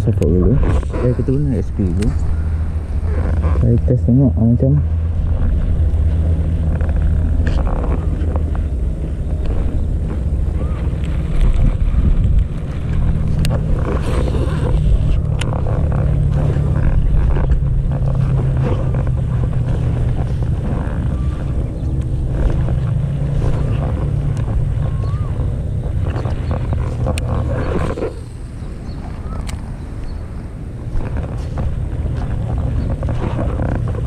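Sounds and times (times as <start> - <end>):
small engine humming: 0.9 - 34.0.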